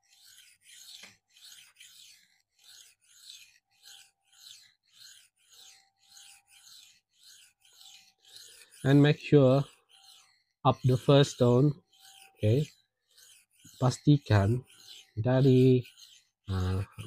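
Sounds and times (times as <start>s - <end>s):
knife rasping on sharpening stone: 0.0s - 17.0s.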